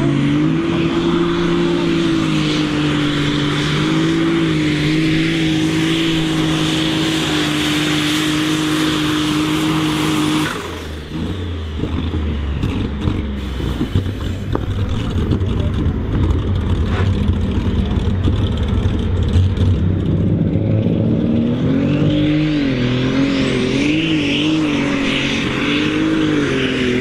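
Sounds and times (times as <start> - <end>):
tractor diesel engine at full throttle: 0.0 - 27.0.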